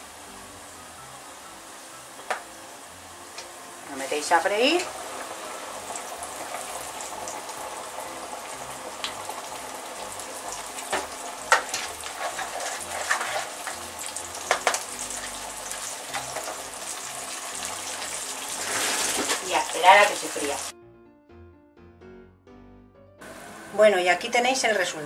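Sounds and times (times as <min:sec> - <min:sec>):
chicken sizzling in hot oil: 0:00.0 - 0:20.7.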